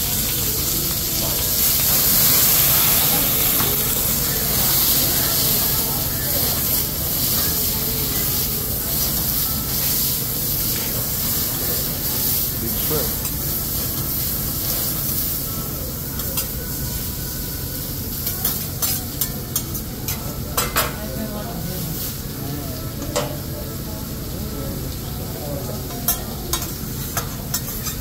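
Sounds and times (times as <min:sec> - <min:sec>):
food sizzling on a griddle: 0:00.0 - 0:28.0.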